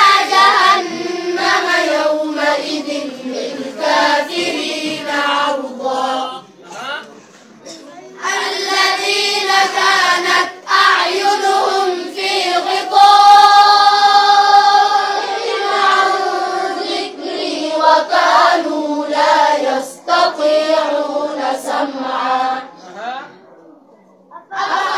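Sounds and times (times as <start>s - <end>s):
girls chanting in unison: 0.0s - 6.4s, 8.2s - 22.7s, 24.4s - 24.9s.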